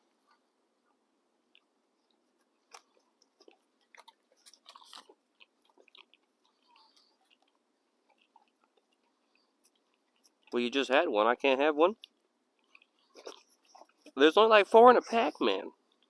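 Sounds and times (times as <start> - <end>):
chewing with soft crunches: 0.0 - 16.0.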